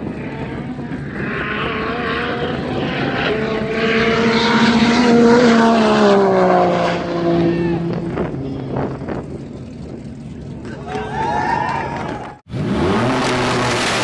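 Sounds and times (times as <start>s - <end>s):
truck engine at full throttle: 0.0s - 14.0s.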